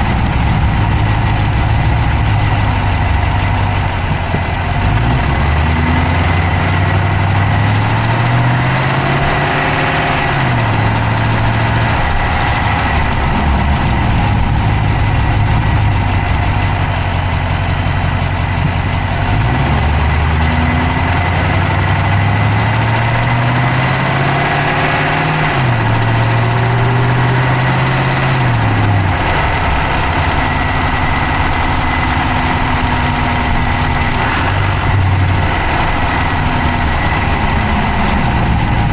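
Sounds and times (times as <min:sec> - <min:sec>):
car engine idling: 0:00.0 - 0:38.9
fast engine clicking: 0:00.0 - 0:38.9
low hum rising in pitch: 0:00.0 - 0:38.9.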